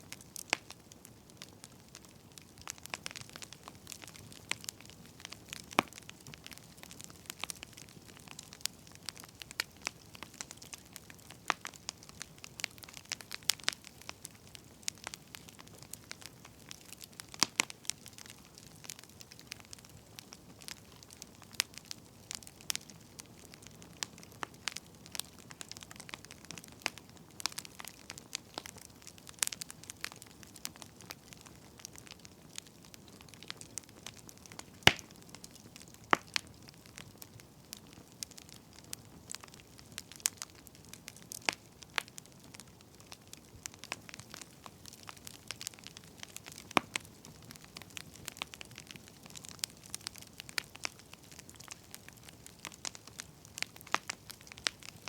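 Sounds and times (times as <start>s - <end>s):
firewood crackling and popping: 0.0s - 55.0s
soft hiss of fire: 0.0s - 55.0s.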